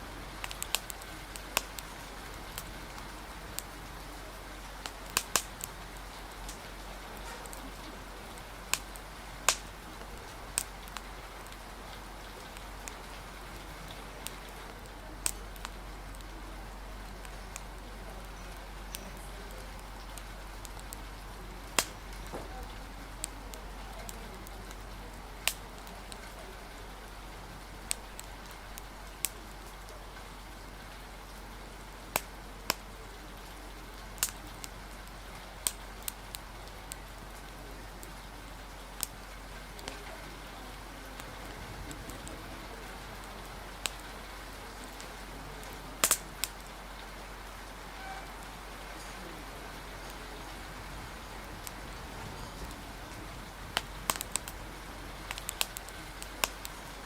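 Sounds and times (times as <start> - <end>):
rain hiss: 0.0 - 57.0
wood fire crackling and popping: 0.0 - 57.0.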